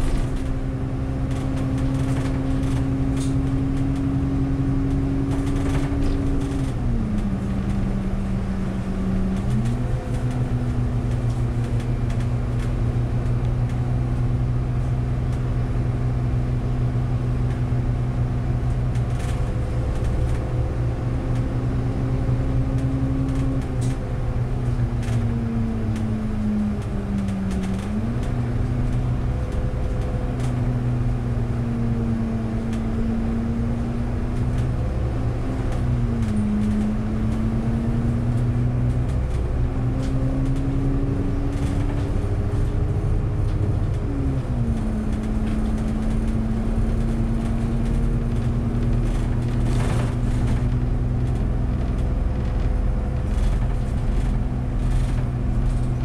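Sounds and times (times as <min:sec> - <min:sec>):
bus motor hum: 0:00.0 - 0:56.0
road noise: 0:00.0 - 0:56.0.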